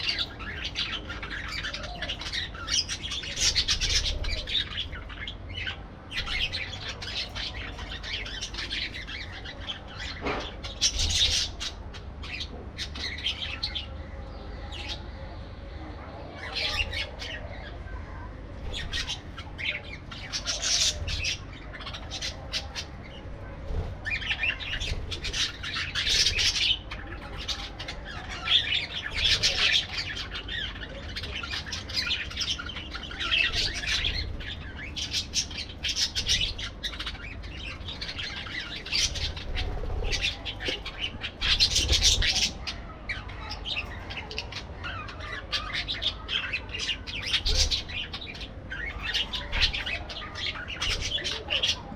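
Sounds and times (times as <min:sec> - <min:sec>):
parakeets chattering and squawking: 0:00.0 - 0:51.9.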